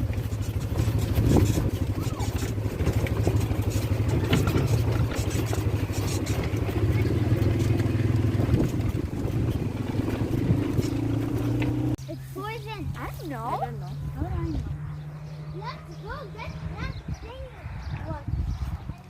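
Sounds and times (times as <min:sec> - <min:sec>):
vehicle engine running: 0:00.0 - 0:18.5.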